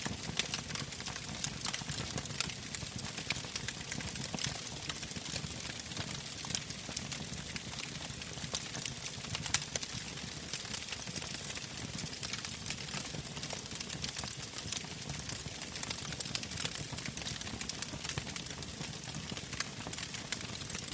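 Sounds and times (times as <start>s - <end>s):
wood fire crackling and popping: 0.0s - 20.9s.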